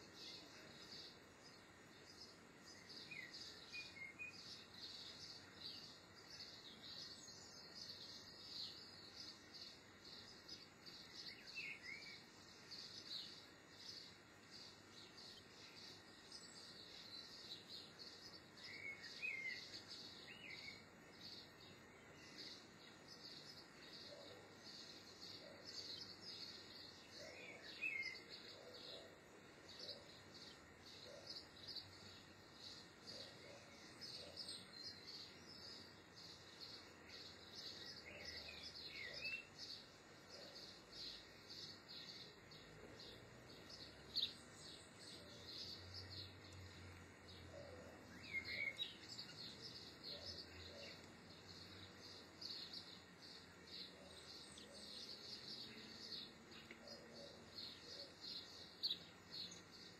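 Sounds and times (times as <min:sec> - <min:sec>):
songbirds twittering: 0:00.0 - 0:59.9.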